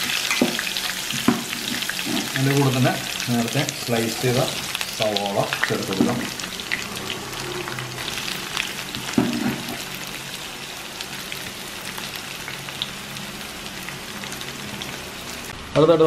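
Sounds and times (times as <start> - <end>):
onions sizzling in oil: 0.0 - 15.7.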